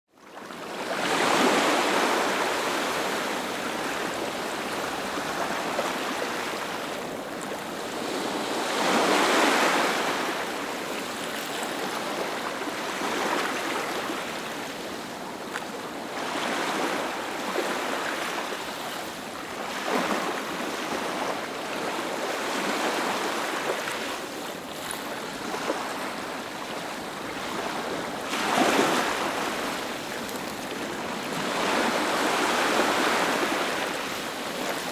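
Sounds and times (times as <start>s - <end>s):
waves breaking: 0.4s - 34.9s.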